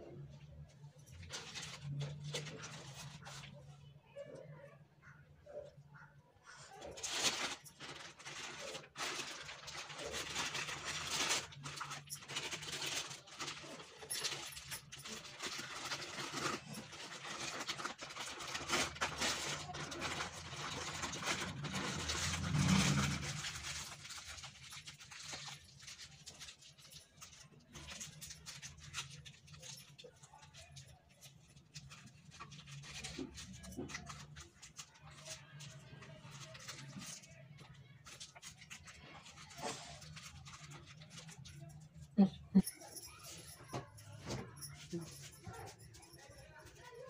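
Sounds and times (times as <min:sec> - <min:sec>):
plastic wrap crinkling: 0:00.1 - 0:03.9, 0:06.5 - 0:47.0.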